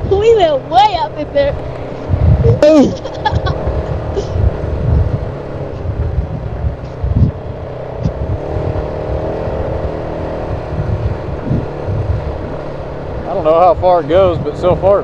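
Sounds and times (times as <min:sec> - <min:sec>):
off-road vehicle engine running: 0:00.0 - 0:15.0
vehicle thumping over bumps: 0:00.0 - 0:15.0.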